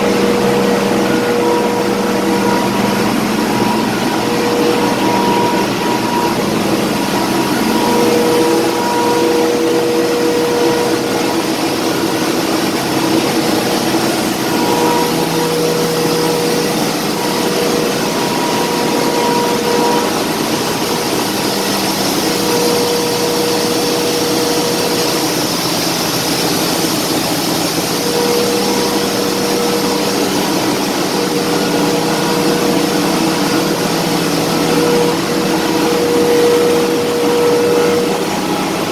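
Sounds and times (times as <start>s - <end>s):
engine-room machinery din: 0.0s - 38.9s.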